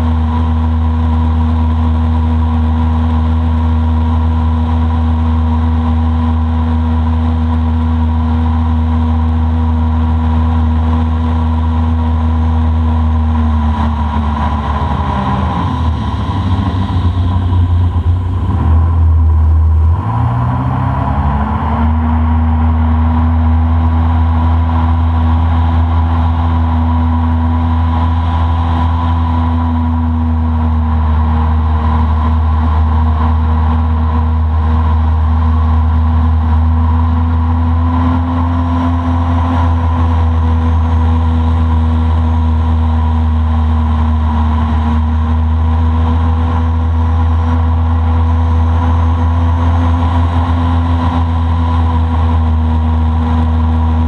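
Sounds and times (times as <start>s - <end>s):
boat motor running: 0.0s - 54.0s.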